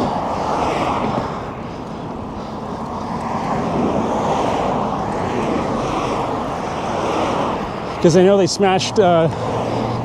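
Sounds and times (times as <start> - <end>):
road traffic: 0.0 - 10.0
wind on microphone: 0.0 - 10.0.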